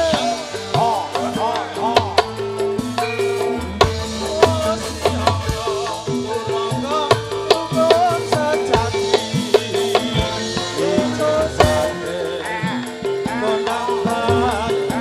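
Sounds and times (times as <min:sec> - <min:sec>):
drum strokes: 0:00.0 - 0:15.0
pitch-bending melody line: 0:00.0 - 0:15.0
pitched percussion melody: 0:00.0 - 0:15.0.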